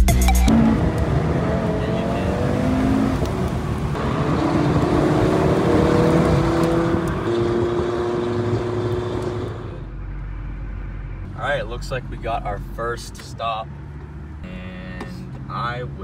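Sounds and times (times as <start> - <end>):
road noise: 0.0 - 16.0
car engine accelerating: 0.4 - 16.0.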